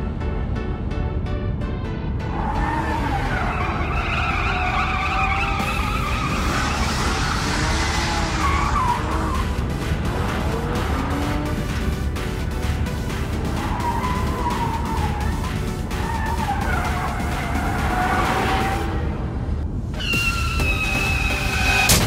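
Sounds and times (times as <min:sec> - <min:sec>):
background music: 0:00.0 - 0:22.0
race car engine: 0:00.0 - 0:22.0
tyres skidding and squealing: 0:02.2 - 0:22.0.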